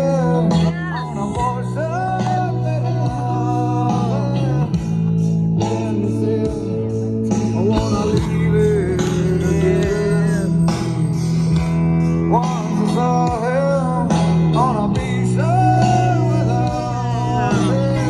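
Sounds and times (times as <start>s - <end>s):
person singing: 0.0s - 11.2s, 12.2s - 18.0s
guitar: 0.0s - 18.0s.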